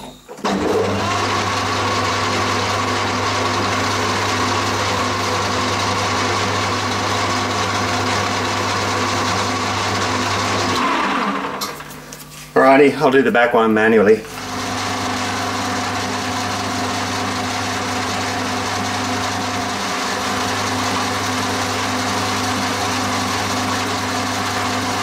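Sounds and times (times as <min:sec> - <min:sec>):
metal lathe motor hum: 0:00.4 - 0:11.9, 0:14.3 - 0:25.0.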